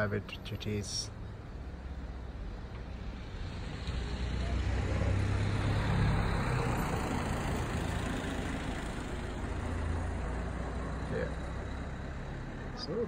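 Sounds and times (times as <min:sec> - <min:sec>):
passing vehicle engine rumble: 0:00.0 - 0:13.0.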